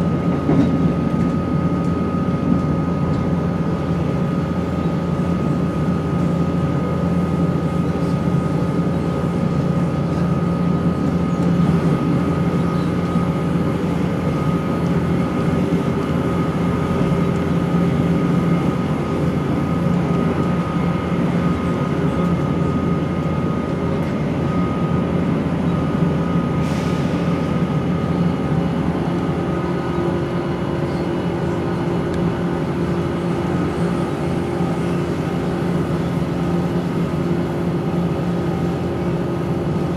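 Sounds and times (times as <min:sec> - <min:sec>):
high steady engine whine: 0:00.0 - 0:39.9
train drone and rumble: 0:00.0 - 0:39.9.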